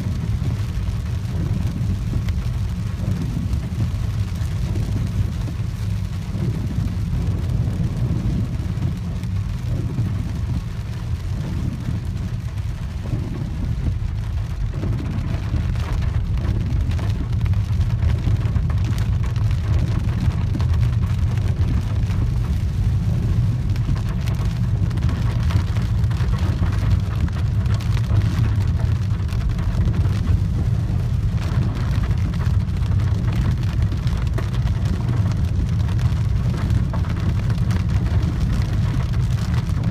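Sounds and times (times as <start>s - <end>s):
rain and tyres hissing: 0.0s - 39.9s
road and engine rumble: 0.0s - 39.9s.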